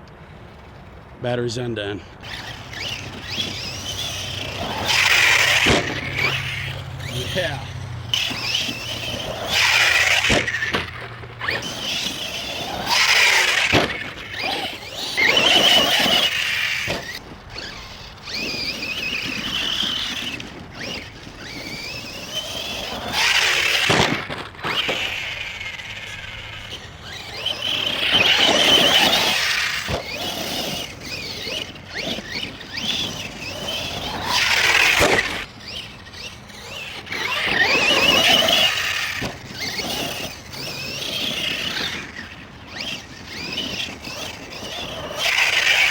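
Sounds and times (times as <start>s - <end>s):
electric motor whining: 2.2s - 45.9s.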